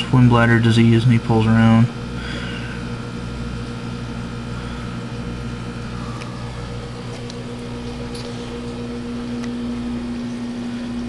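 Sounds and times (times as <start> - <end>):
aquarium equipment humming: 0.0 - 11.0.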